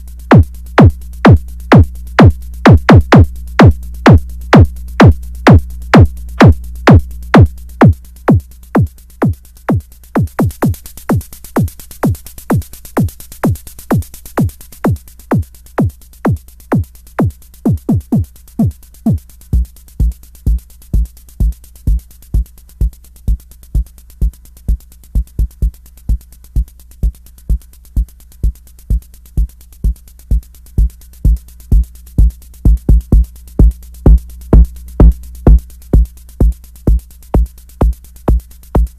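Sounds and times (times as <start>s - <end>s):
faint low hum: 0.0s - 38.9s
synth kick drum: 0.0s - 38.9s.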